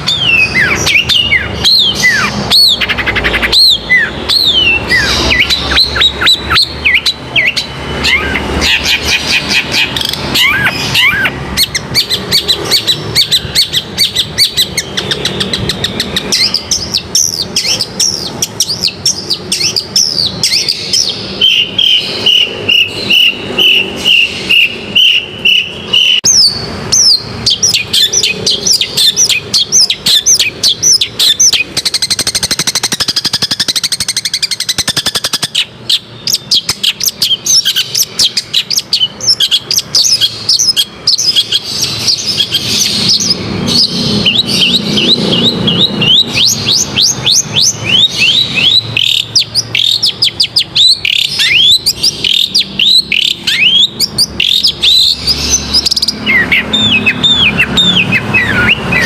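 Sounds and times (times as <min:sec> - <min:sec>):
bird singing chirps: 0:00.0 - 0:59.0.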